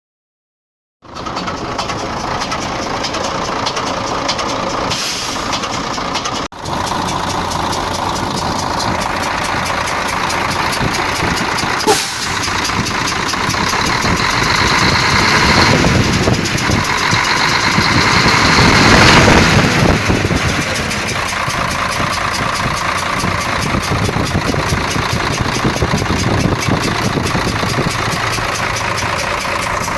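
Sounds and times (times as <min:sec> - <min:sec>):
diesel truck engine knocking: 0:01.0 - 0:29.9.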